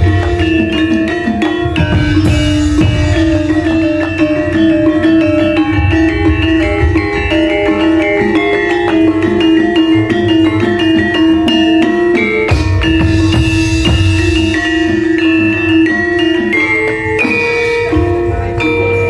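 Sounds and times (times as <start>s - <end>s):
metallophones ringing struck notes: 0.0s - 19.0s.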